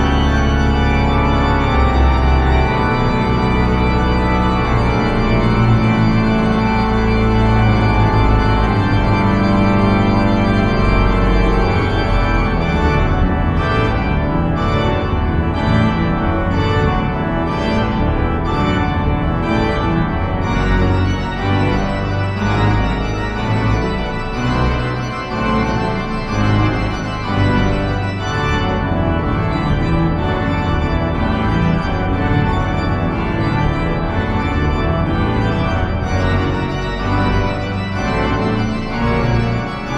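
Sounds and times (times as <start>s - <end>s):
organ playing chords: 0.0s - 39.9s.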